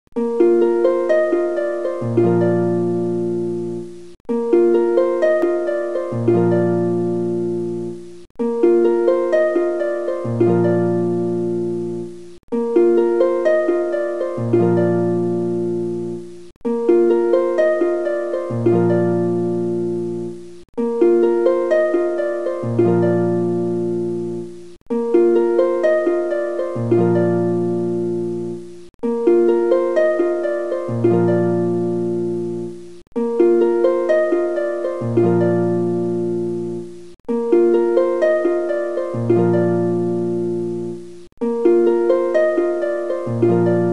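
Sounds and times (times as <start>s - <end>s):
plucked-string melody: 0.1s - 43.9s.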